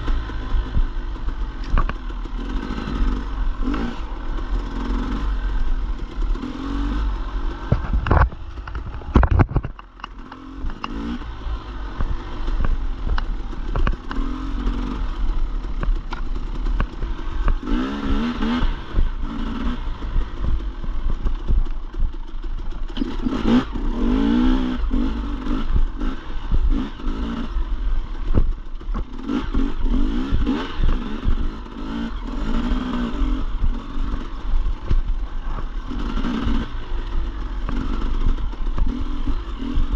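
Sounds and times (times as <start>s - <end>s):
dirt bike engine revving: 0.0s - 8.0s, 10.0s - 39.9s.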